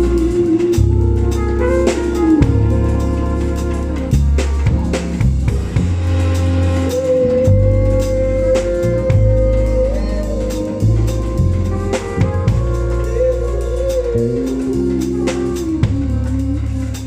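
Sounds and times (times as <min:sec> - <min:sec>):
bass drum and snare hits: 0:00.0 - 0:14.1
held higher note: 0:00.0 - 0:17.0
live band playing: 0:00.0 - 0:17.0.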